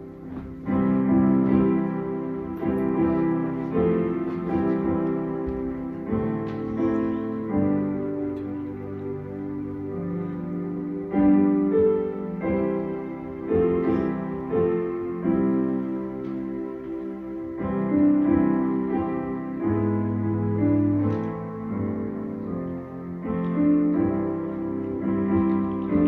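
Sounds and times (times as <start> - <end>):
slow solo piano: 0.0 - 26.0.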